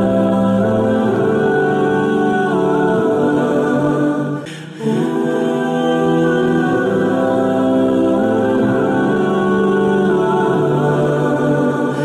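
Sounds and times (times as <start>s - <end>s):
music of long held notes: 0.0s - 12.0s.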